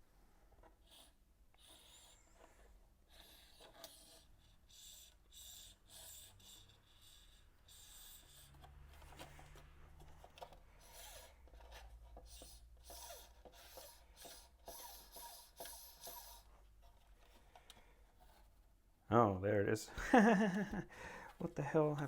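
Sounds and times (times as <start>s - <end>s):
hands rubbing and scraping parts: 0.5s - 18.8s.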